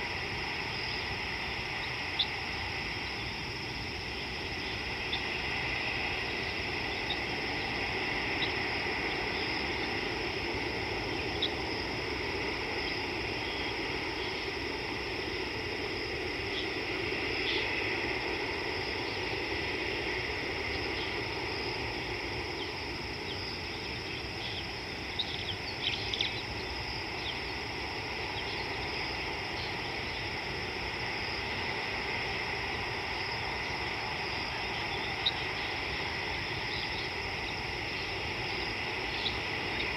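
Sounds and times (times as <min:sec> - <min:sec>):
insects chirring: 0:00.0 - 0:39.9
low outdoor hum: 0:00.0 - 0:39.9.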